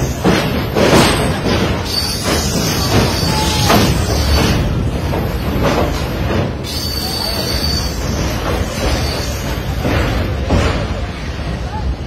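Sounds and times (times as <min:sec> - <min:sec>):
train crossing steel bridge: 0:00.0 - 0:12.0.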